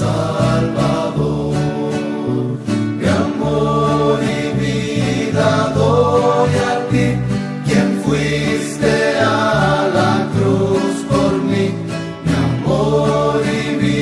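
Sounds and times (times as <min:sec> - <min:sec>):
guitars with bass line: 0:00.0 - 0:14.0
vocal group singing in harmony: 0:00.0 - 0:14.0.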